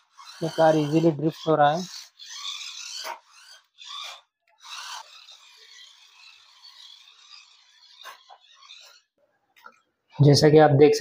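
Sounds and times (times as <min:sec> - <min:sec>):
toy car running hiss: 0:00.0 - 0:09.1
toy car tyres skidding on floor: 0:00.0 - 0:09.1.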